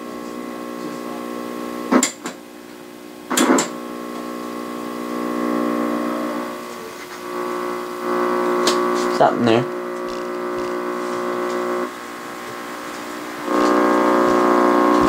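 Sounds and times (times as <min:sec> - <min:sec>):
steady speaker buzz: 0:00.0 - 0:15.0.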